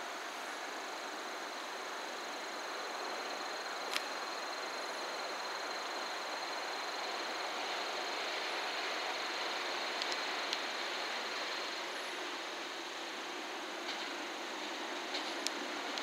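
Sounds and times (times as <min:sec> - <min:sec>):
outdoor hiss: 0:00.0 - 0:16.0
insects trilling: 0:00.3 - 0:16.0.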